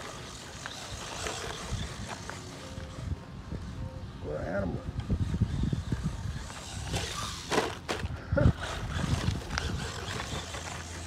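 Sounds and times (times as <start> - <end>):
toy truck motor and tyres: 0.0 - 11.0.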